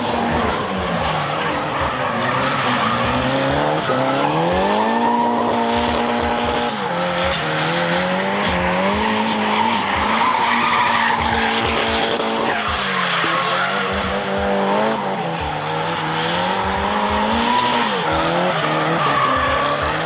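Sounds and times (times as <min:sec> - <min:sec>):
car engine revving: 0:00.0 - 0:20.0
tyres screeching: 0:00.0 - 0:20.0.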